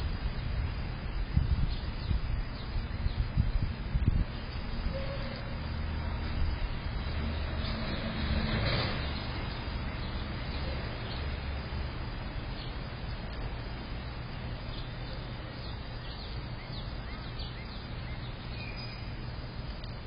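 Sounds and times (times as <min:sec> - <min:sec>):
outdoor noise with low rumble: 0:00.0 - 0:20.0
small birds chirping: 0:00.4 - 0:20.0.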